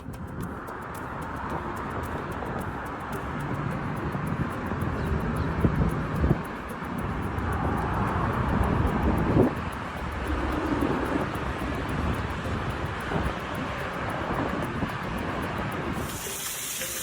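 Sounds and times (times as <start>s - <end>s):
vehicle running: 0.0s - 17.0s
wind on microphone: 0.0s - 17.0s.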